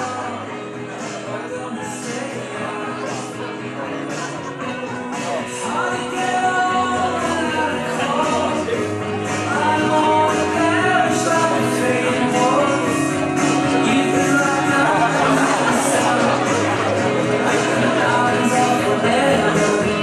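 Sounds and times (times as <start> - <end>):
song with singer and band: 0.0 - 20.0.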